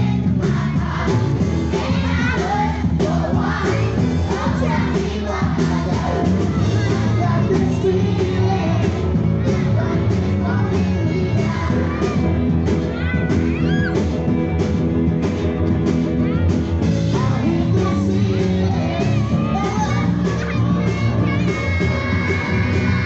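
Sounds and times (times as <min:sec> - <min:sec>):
voices singing along: 0:00.0 - 0:14.4, 0:16.6 - 0:23.0
live rock and roll band: 0:00.0 - 0:23.0.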